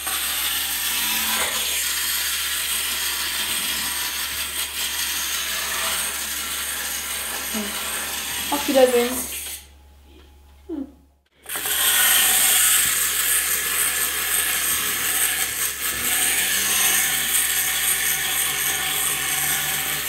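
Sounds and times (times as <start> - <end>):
wind-up toy whirring: 0.0 - 9.7, 11.4 - 20.0.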